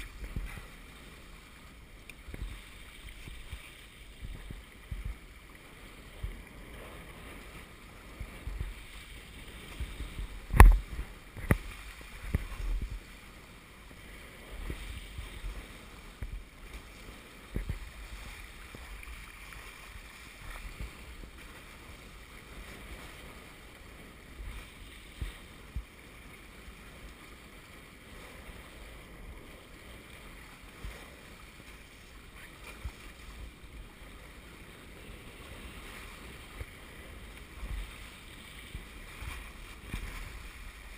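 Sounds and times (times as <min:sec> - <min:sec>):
water rushing along hulls: 0:00.0 - 0:40.9
wind rumble on microphone: 0:00.0 - 0:40.9.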